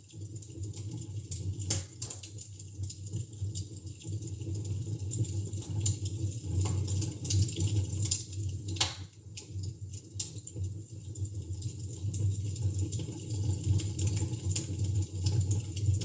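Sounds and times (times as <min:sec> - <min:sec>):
wood fire crackling and popping: 0:00.1 - 0:16.0.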